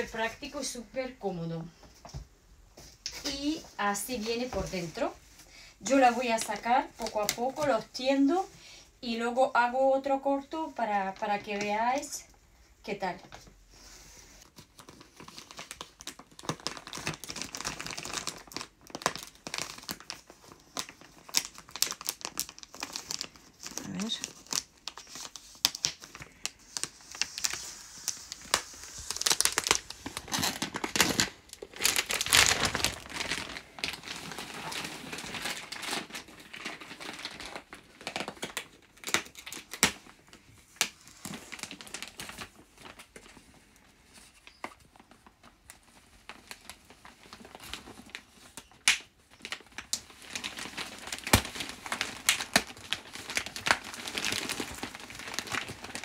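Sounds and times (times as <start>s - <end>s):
plastic film crinkling and tearing: 3.0s - 8.4s, 14.4s - 56.0s.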